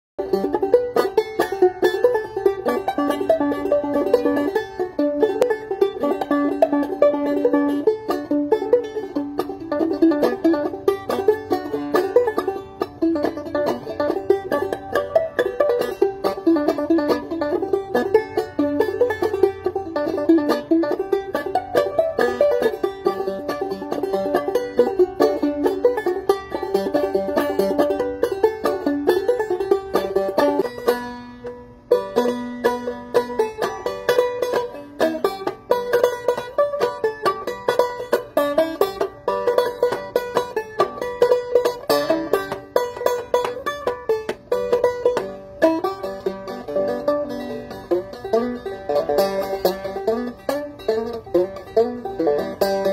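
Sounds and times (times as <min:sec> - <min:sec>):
banjo playing bluesy tune: 0:00.2 - 0:52.9.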